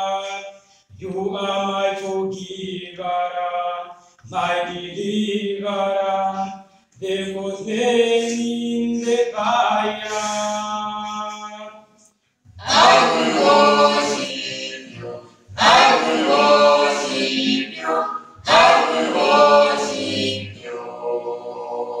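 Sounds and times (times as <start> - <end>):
vocal group singing a cappella: 0.0 - 22.0.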